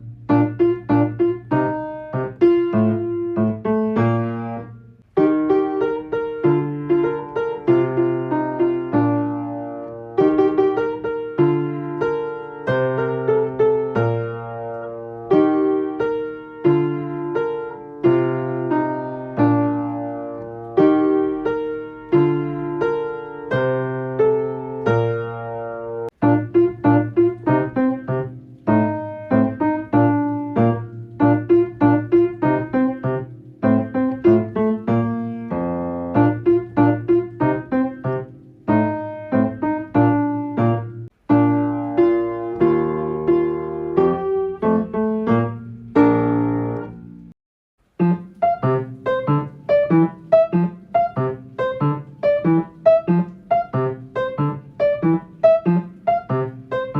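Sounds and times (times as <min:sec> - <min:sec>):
solo piano playing: 0:00.0 - 0:56.9.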